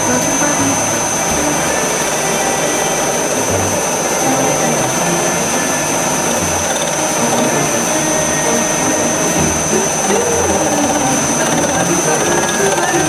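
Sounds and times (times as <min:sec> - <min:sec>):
metal lathe running: 0:00.0 - 0:13.0
thin high whine: 0:00.0 - 0:13.0.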